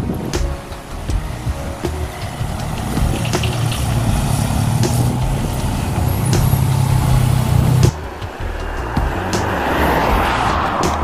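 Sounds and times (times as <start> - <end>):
motor scooter engine running: 0.0 - 9.4.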